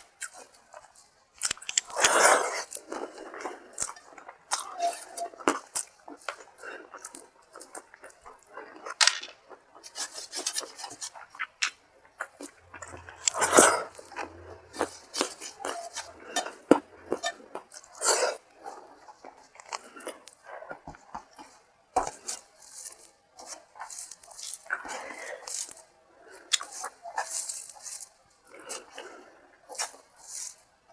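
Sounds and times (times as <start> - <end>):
food worked on a plate: 0.0 - 30.9
chewing: 0.2 - 30.1.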